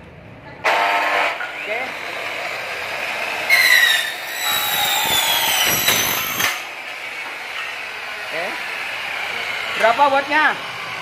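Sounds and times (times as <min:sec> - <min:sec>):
electric cutting saw running: 0:00.6 - 0:11.0
miter saw cutting metal: 0:00.7 - 0:11.0.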